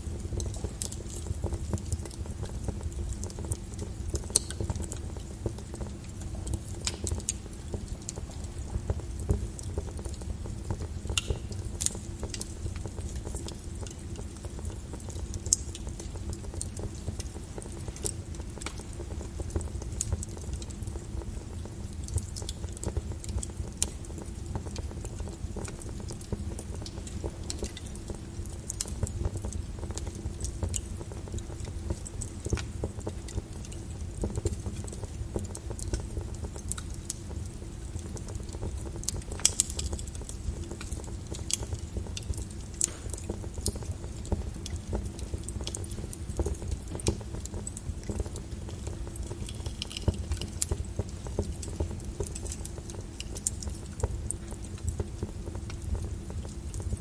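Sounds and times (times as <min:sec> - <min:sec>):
rain on a window: 0:00.0 - 0:57.0
wood fire crackling and popping: 0:00.0 - 0:57.0.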